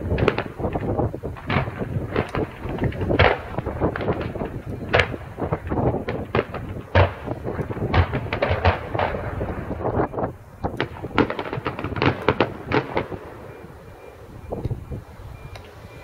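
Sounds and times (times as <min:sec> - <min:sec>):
fireworks bangs and crackles: 0:00.0 - 0:15.3
wind buffeting microphone: 0:00.0 - 0:16.0.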